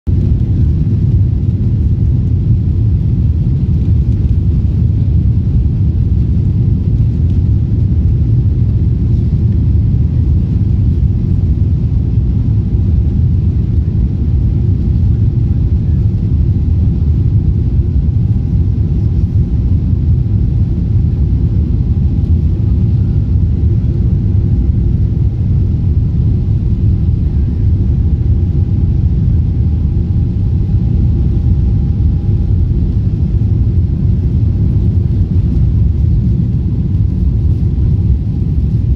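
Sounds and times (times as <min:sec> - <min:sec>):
airliner cabin rumble taxiing: 0:00.1 - 0:38.9
faint steady whine: 0:00.1 - 0:38.9.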